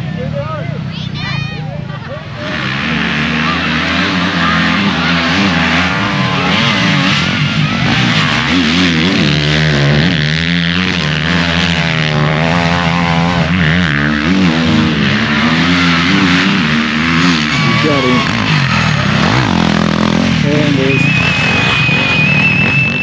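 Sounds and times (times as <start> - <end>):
motorcycle engines racing: 0.0 - 23.0.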